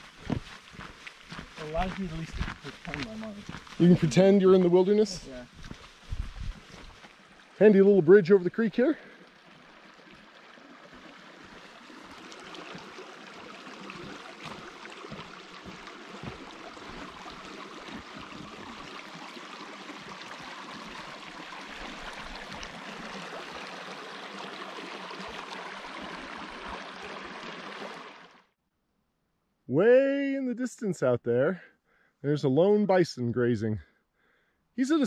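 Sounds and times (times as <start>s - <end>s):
creek burbling over stones: 0.0s - 28.5s.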